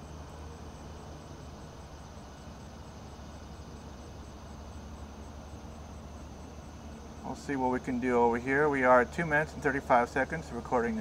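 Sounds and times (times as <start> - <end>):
faint hiss: 0.0 - 11.0
low background rumble: 0.0 - 11.0.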